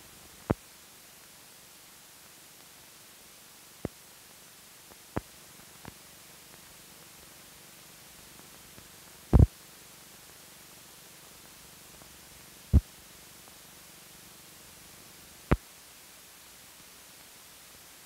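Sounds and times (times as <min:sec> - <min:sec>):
film soundtrack hiss: 0:00.0 - 0:18.0.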